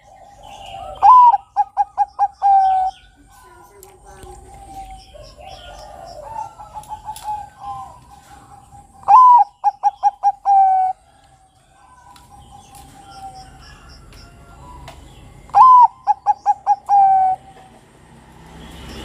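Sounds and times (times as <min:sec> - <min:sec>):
dove cooing: 0:00.0 - 0:18.0
small birds chirping: 0:00.0 - 0:19.0.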